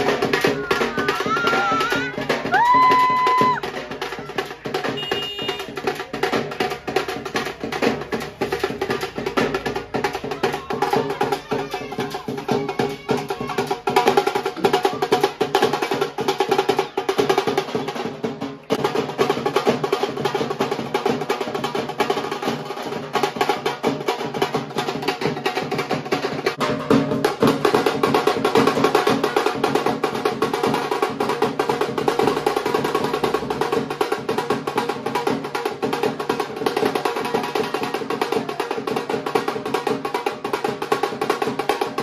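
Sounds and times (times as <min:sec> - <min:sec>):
drum beaten with sticks: 0:00.0 - 0:42.0.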